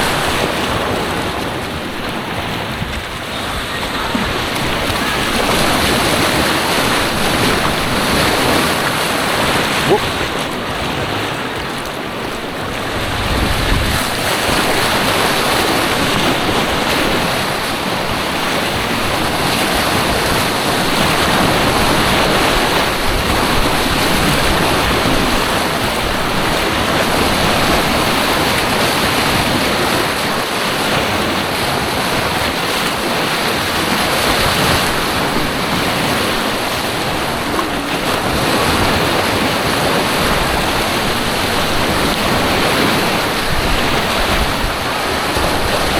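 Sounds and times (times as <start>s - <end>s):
white water rushing: 0.0s - 45.9s
wind buffeting microphone: 0.0s - 45.9s.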